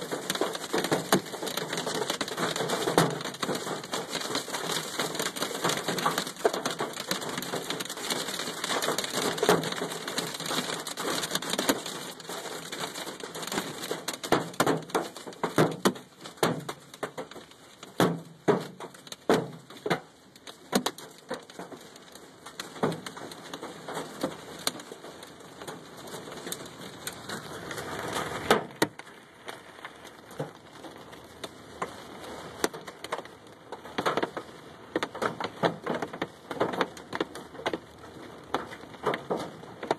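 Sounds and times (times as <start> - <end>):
hail striking truck body: 0.0 - 32.0, 32.6 - 39.9.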